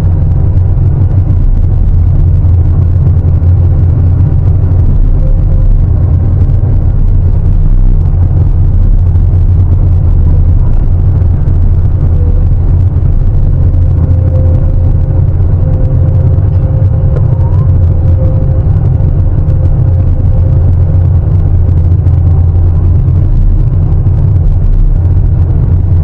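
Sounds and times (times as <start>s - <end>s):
diesel engine drone: 0.0s - 26.0s
faint steady whine: 0.0s - 26.0s.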